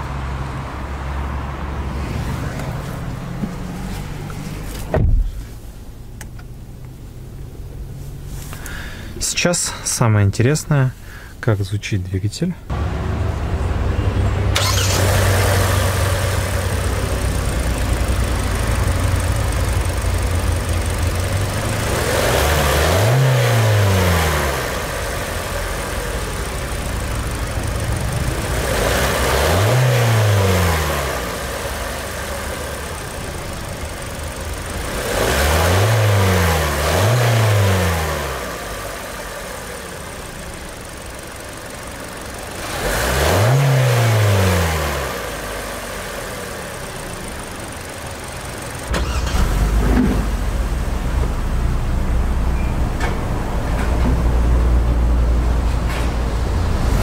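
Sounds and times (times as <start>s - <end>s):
car engine idling and revving: 0.0s - 9.8s, 12.6s - 57.0s.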